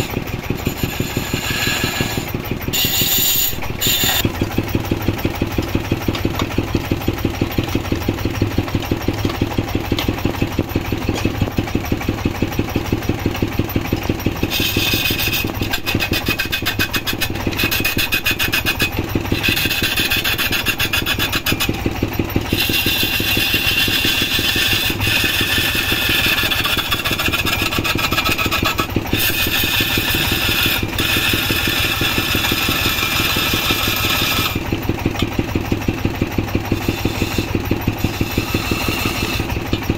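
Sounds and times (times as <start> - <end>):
gouge scraping spinning wood: 0.0 - 8.1, 12.2 - 39.9
lathe engine running: 0.0 - 39.9.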